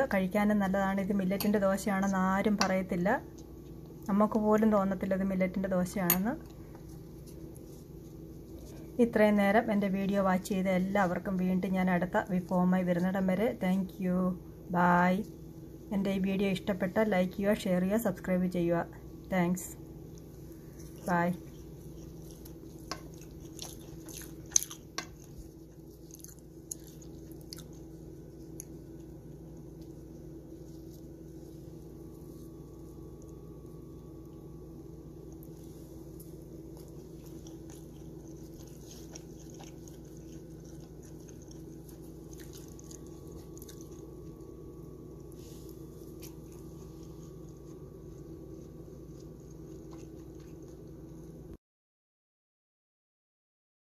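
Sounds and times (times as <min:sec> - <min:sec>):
low hum: 0:00.0 - 0:51.6.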